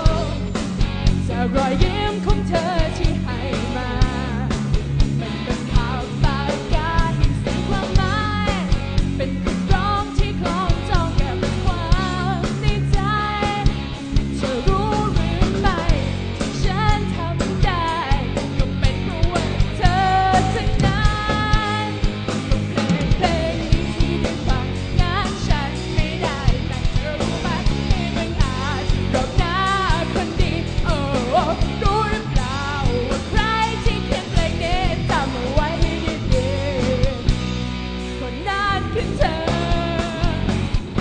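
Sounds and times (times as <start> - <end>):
person singing: 0.0 - 0.5, 1.3 - 22.1, 22.8 - 37.3, 38.2 - 41.0
bass guitar: 0.0 - 41.0
drums keeping a beat: 0.0 - 41.0
electric guitars: 0.0 - 41.0.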